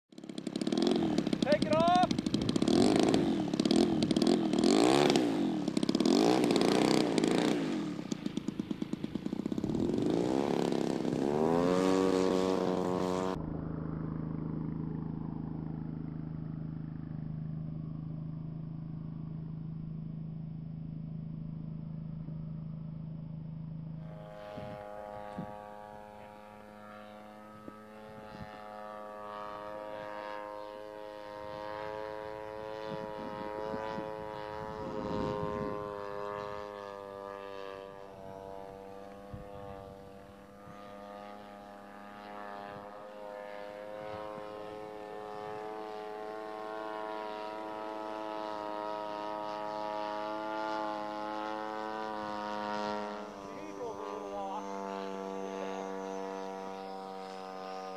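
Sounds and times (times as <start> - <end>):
model plane engine revving: 0.1 - 18.8, 24.0 - 57.9.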